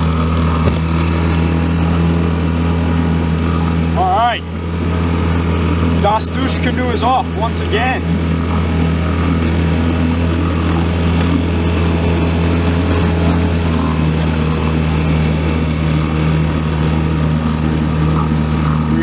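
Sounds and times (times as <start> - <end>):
outboard motor humming: 0.0 - 19.0.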